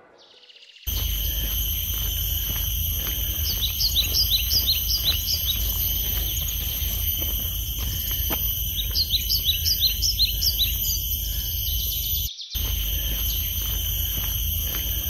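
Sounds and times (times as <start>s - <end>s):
birds chirping: 0.0s - 15.0s
high-pitched drone: 0.9s - 15.0s.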